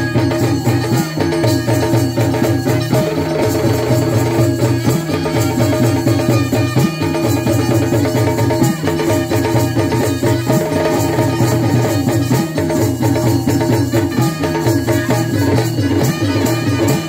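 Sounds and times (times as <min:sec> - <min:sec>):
barrel drum played by hand: 0:00.0 - 0:17.0.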